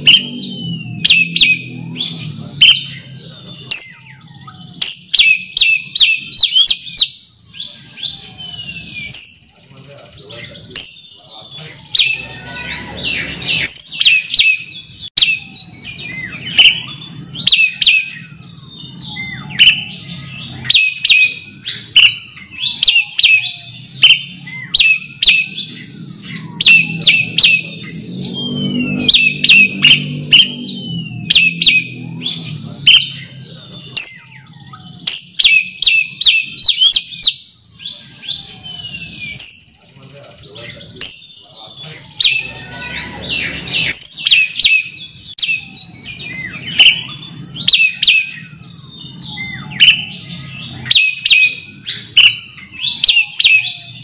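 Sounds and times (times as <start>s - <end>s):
bird singing chirps and whistles: 0.0s - 54.0s.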